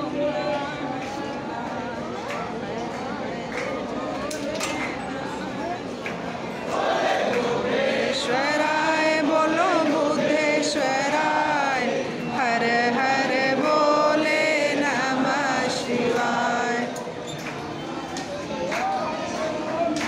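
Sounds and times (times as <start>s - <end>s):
devotional chanting: 0.0s - 20.0s.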